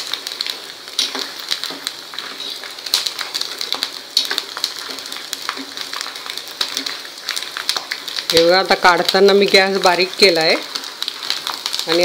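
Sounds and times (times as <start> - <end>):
pearls deep-frying in sizzling oil: 0.0 - 12.0.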